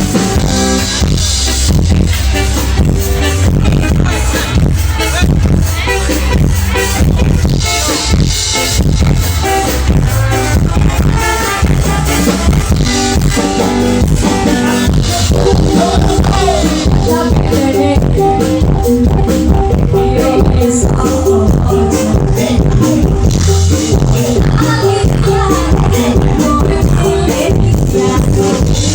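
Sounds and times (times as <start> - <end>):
band music with heavy bass: 0.0 - 28.9.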